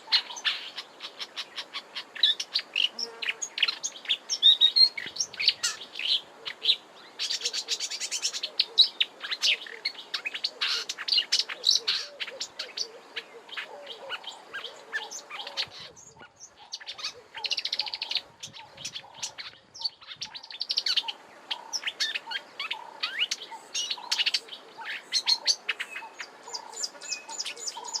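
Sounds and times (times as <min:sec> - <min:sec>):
bird warbling: 0:04.9 - 0:28.0.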